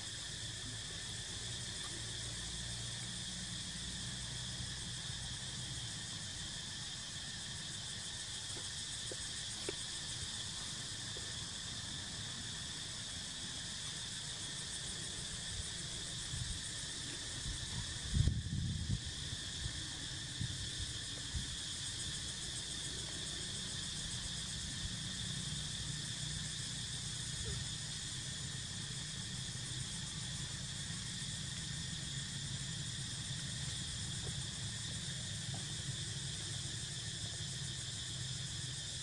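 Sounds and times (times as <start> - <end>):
shrill insect chorus: 0.0 - 39.0.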